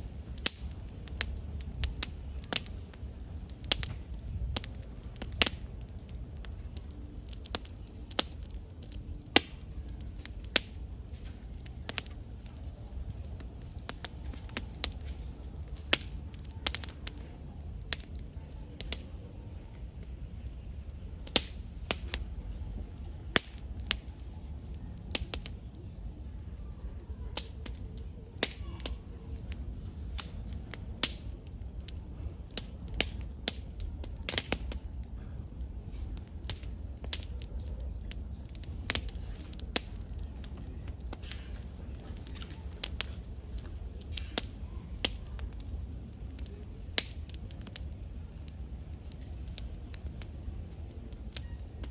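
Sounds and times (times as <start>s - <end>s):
campfire crackling and popping: 0.0s - 51.9s
low fire rumble: 0.0s - 51.9s.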